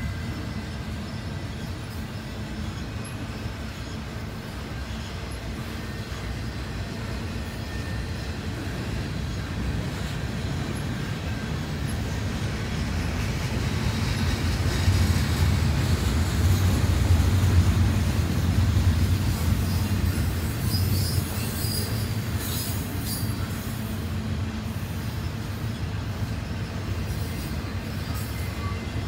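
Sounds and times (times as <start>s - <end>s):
steel wheels rumbling on rail: 0.0s - 29.0s.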